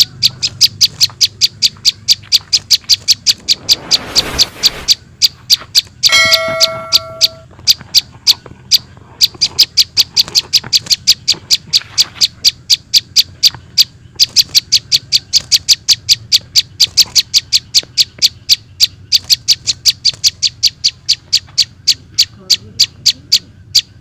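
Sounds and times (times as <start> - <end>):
bird short high chirps: 0.0 - 24.0.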